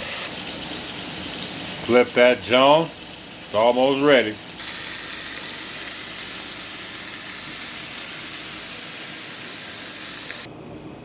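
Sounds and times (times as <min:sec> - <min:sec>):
steak sizzling: 0:00.0 - 0:10.5.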